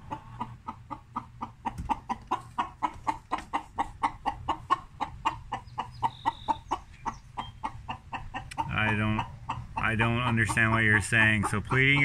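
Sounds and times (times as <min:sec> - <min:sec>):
hen clucking: 0:00.0 - 0:12.0.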